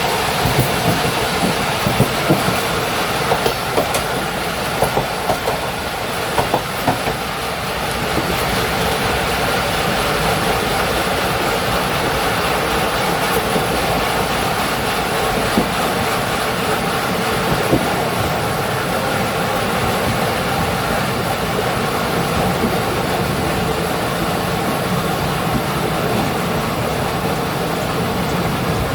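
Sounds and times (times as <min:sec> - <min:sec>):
train undercarriage rumbling: 0:00.0 - 0:28.9.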